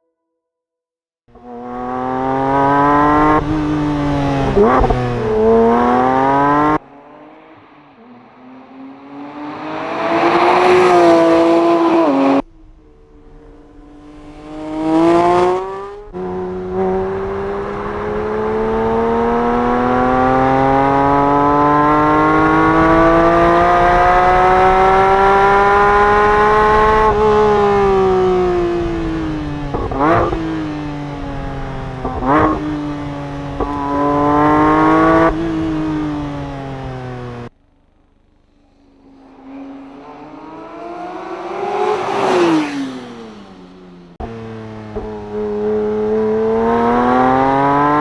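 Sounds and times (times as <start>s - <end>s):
sports car engine revving: 1.3s - 48.0s.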